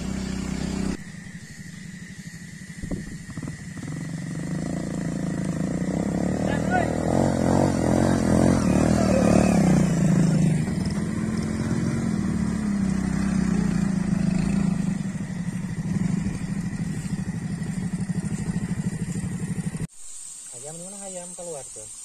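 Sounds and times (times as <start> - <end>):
motorcycle engines revving: 0.0 - 19.9.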